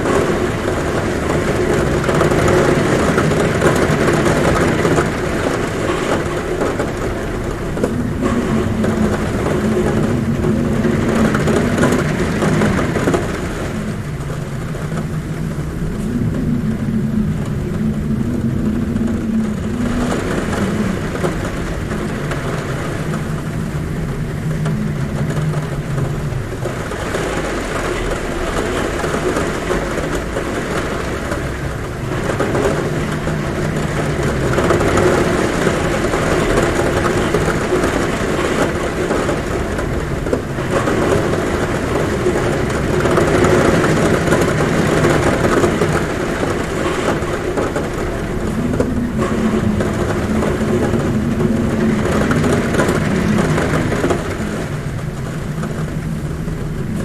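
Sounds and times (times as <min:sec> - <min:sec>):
heavy rain on a roof: 0:00.0 - 0:57.0
wind humming at a window: 0:00.0 - 0:57.0.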